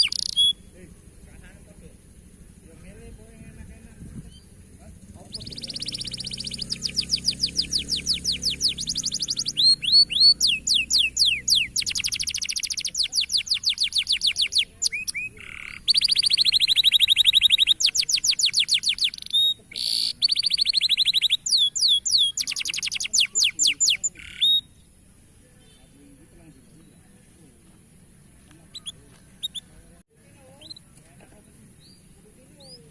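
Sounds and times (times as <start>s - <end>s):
canary singing trills: 0.0s - 27.4s, 28.0s - 32.9s.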